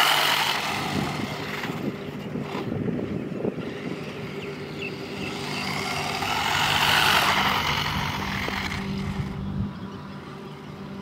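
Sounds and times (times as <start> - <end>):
rc car passing at speed: 0.0 - 2.8, 3.4 - 9.6.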